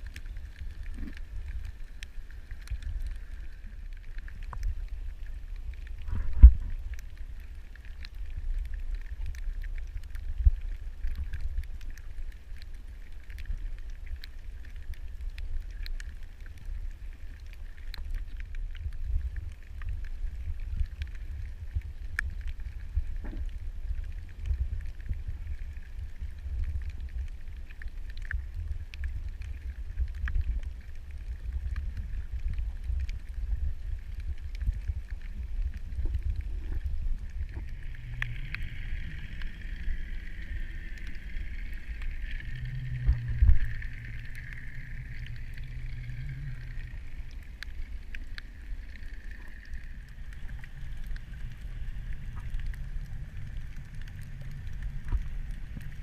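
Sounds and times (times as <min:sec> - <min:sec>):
faint clicks and crackle: 0:00.0 - 0:56.0
underwater rumble of water: 0:00.0 - 0:56.0.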